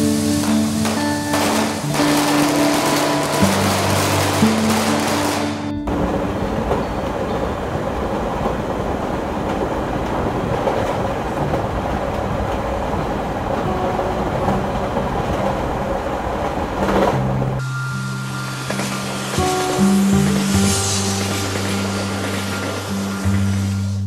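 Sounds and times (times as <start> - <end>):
train rumbling on rails: 0.0 - 17.6, 18.3 - 24.0.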